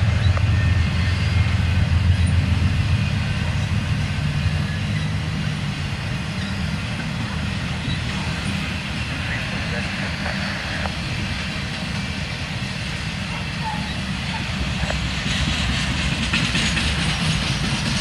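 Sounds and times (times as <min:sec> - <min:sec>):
freight cars rolling on steel wheels: 0:00.0 - 0:18.0.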